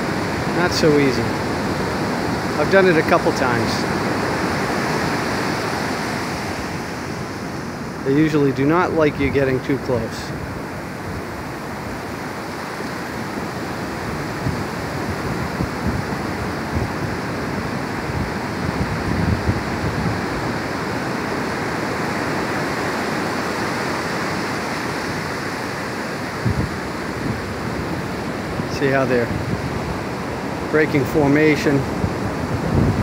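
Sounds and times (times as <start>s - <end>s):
surf breaking on beach: 0.0s - 33.0s
wind buffeting microphone: 0.0s - 33.0s.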